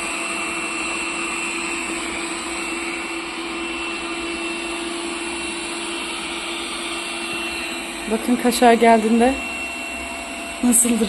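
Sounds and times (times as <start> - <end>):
robot vacuum cleaner whirring: 0.0 - 11.0.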